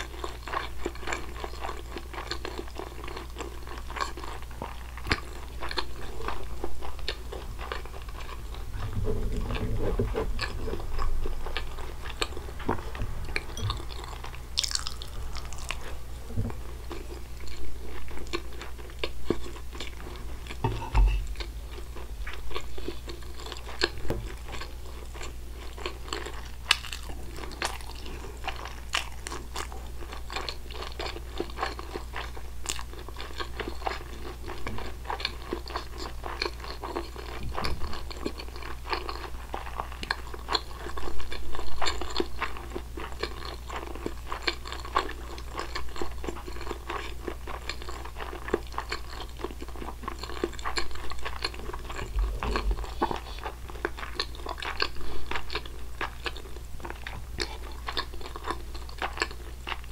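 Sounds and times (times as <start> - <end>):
wet chewing mouth sounds: 0.0 - 59.9.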